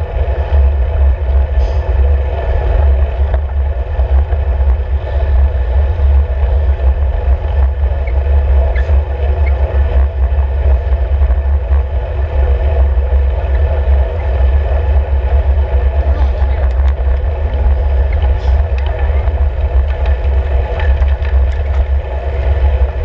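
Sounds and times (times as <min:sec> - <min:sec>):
road rumble: 0:00.0 - 0:23.0
wind buffeting microphone: 0:00.0 - 0:23.0.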